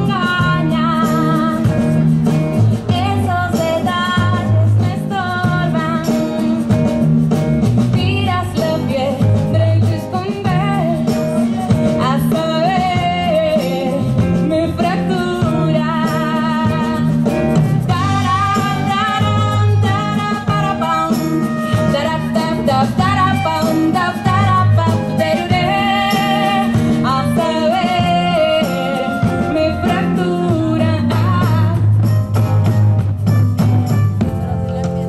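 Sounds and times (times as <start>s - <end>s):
woman singing with vibrato: 0.0s - 2.0s, 2.8s - 6.8s, 8.0s - 32.0s
low bass notes: 0.0s - 20.9s, 21.7s - 35.0s
acoustic guitar: 0.0s - 35.0s
drums: 0.0s - 35.0s.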